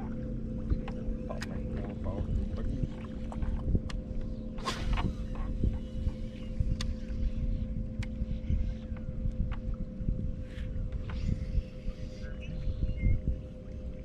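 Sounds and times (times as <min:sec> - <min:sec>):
boat motor humming: 0:00.0 - 0:14.0
wind rumble on microphone: 0:00.0 - 0:14.0.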